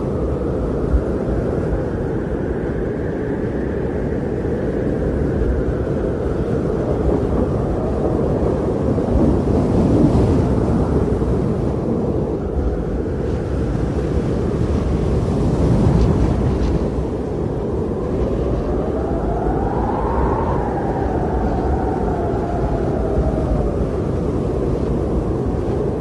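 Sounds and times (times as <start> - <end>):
strong blizzard wind: 0.0 - 26.0.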